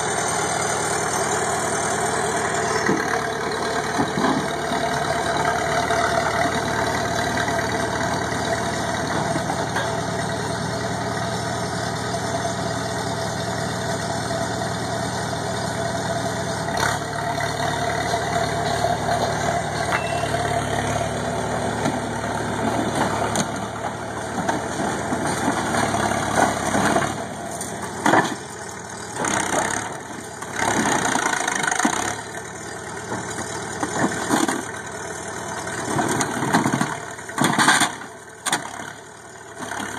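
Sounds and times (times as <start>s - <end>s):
diesel loader engine: 0.0s - 39.9s.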